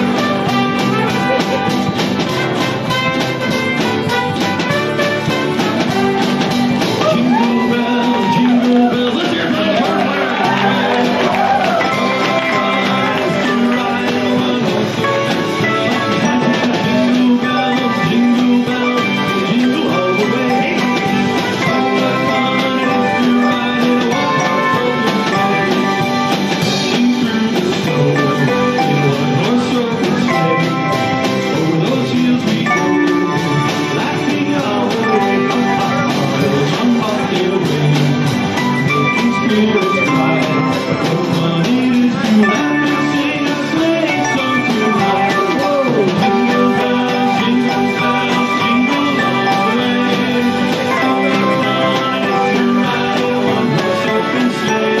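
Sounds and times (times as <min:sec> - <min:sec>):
drum kit: 0:00.0 - 0:55.0
guitars: 0:00.0 - 0:55.0
trumpet: 0:00.0 - 0:55.0.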